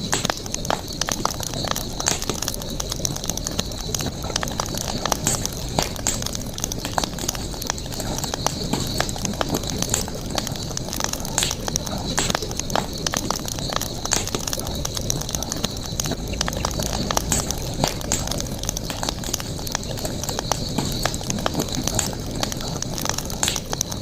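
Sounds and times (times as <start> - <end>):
campfire crackling and popping: 0.0 - 24.0
steady background hiss: 0.0 - 24.0.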